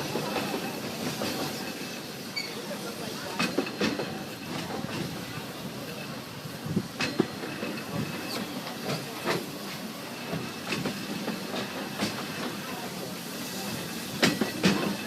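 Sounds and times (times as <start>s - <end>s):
wheels clacking over rail joints: 0.0s - 6.1s, 6.8s - 13.1s, 13.7s - 15.0s
train running noise: 0.0s - 15.0s.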